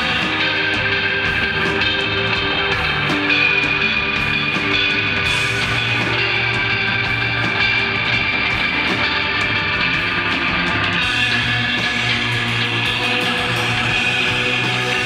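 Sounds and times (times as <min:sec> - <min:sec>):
held electric guitar notes: 0:00.0 - 0:15.0
steady bass line: 0:00.0 - 0:15.0.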